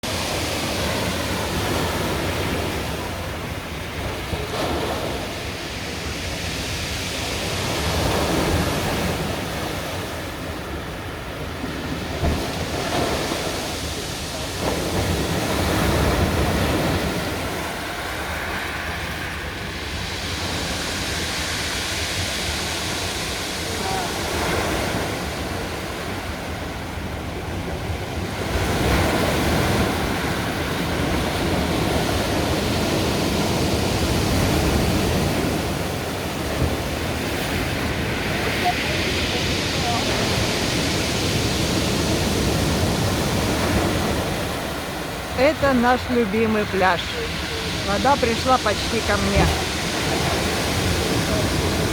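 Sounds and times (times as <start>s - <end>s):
waves breaking on shore: 0.0s - 51.9s.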